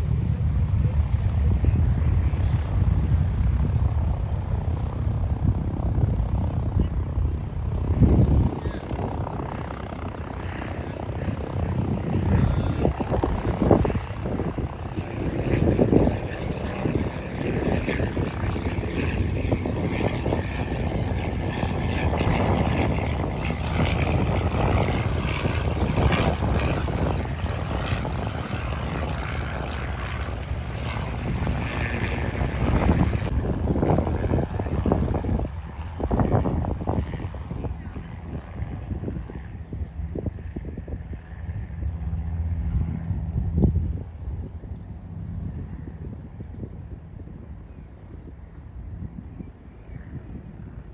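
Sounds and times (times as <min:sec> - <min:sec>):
propeller plane engine running: 0:00.0 - 0:50.9.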